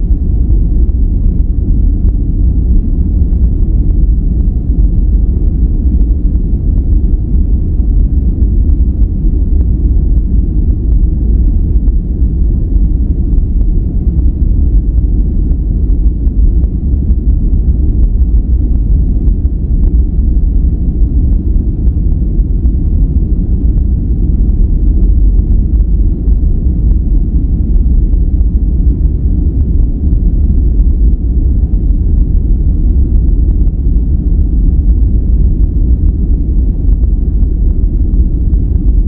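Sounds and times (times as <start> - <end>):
deep synthesized noise rumble: 0.0 - 39.0.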